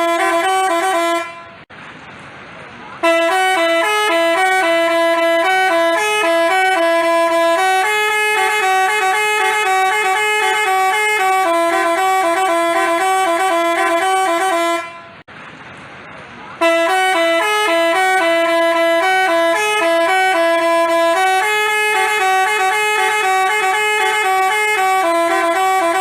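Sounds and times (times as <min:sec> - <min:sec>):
musical air horn tune: 0:00.0 - 0:01.6, 0:03.0 - 0:15.2, 0:16.6 - 0:26.0.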